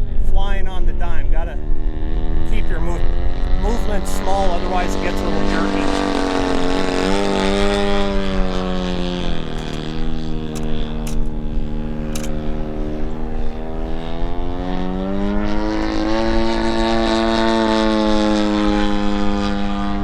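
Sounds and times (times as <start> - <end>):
model airplane engine in flight: 1.6 - 20.0.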